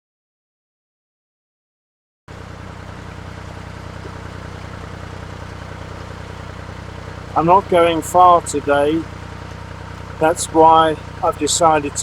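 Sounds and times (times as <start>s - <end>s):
boat diesel engine running: 2.3s - 12.0s.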